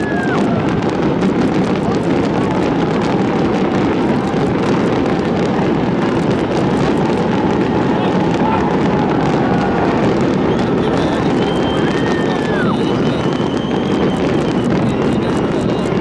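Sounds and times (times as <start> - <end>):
crowd chatter: 0.0 - 16.0.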